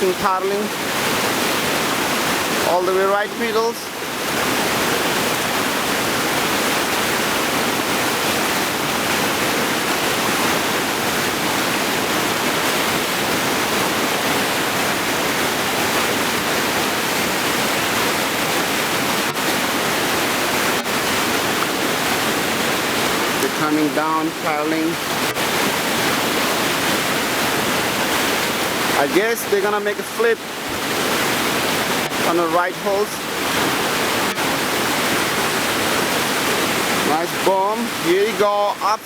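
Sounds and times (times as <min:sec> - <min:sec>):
river rapids rushing: 0:00.0 - 0:39.0.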